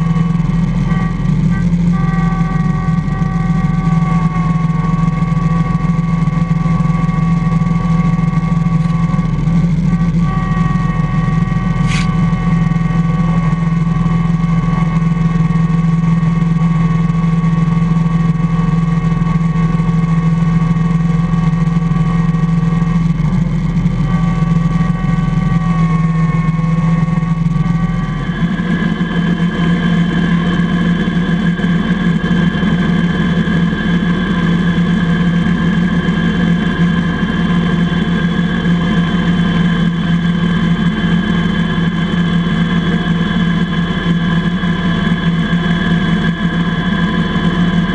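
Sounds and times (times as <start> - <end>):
steady whine: 0.0 - 47.9
tractor engine running: 0.0 - 47.9.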